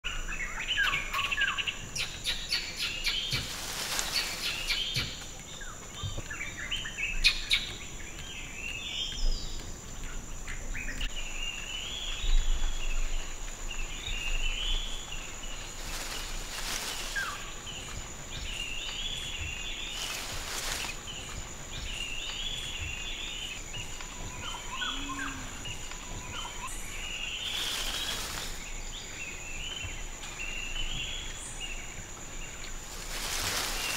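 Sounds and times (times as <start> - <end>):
birds chirping: 0.1 - 33.9
high insect drone: 0.1 - 33.9.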